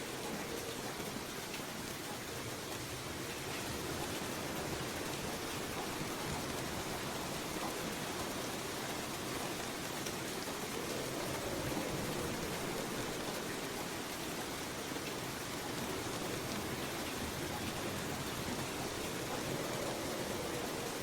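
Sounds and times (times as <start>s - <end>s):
rain pattering: 0.0s - 21.0s.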